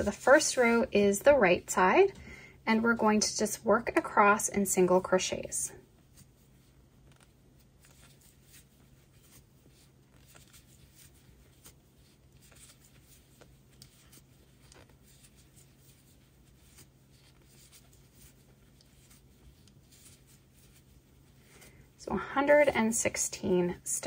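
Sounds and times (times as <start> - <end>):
low steady hum: 0.0 - 24.0
crochet hook rustling yarn: 4.1 - 24.0.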